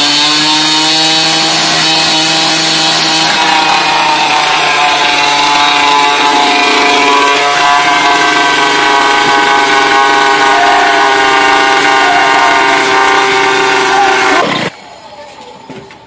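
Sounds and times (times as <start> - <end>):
loud multi-tone horn blast: 0.0 - 14.7.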